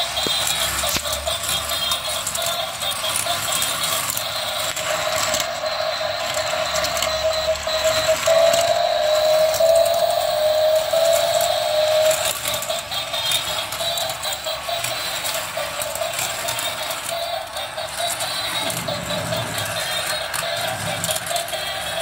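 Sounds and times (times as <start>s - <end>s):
plastic toy cars rattling: 0.0s - 22.0s
toy electric motor whining: 0.0s - 22.0s.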